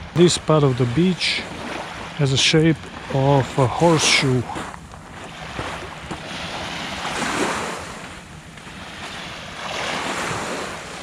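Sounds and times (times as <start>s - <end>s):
waves washing onto beach: 0.0s - 11.0s
wind buffeting microphone: 0.0s - 11.0s.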